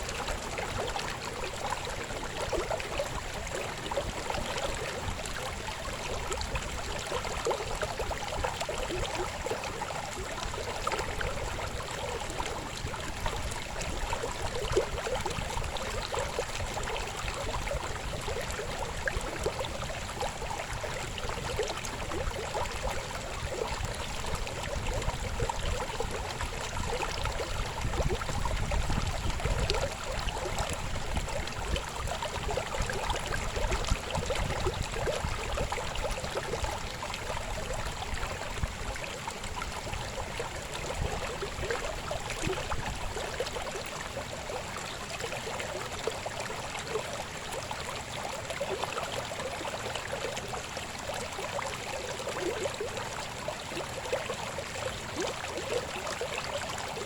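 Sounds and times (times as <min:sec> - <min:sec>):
low rumble of water: 0:00.0 - 0:57.0
river babbling over stones: 0:00.0 - 0:57.0.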